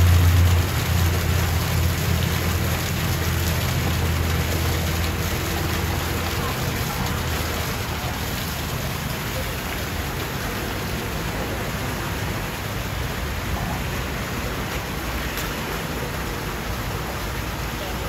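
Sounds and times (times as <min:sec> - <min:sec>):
splashing water: 0:00.0 - 0:18.0.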